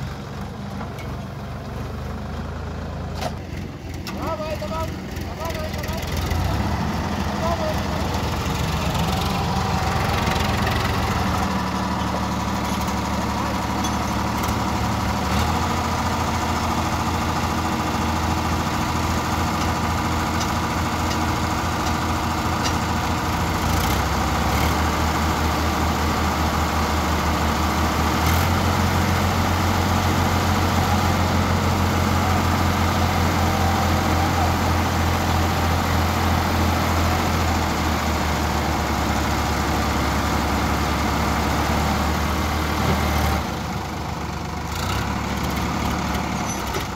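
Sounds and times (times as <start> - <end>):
diesel tractor engines running: 0.0 - 46.9.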